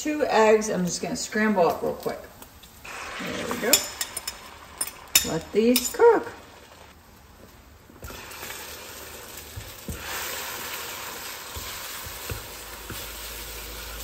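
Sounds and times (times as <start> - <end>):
eggs and bacon sizzling in a pan: 1.4 - 14.0.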